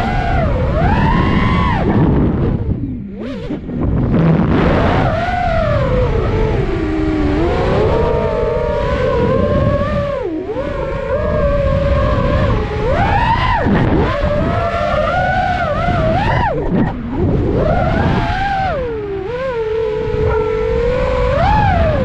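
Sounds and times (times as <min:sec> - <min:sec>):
drone motors whining: 0:00.0 - 0:22.0
rush of wind and prop wash: 0:00.0 - 0:22.0.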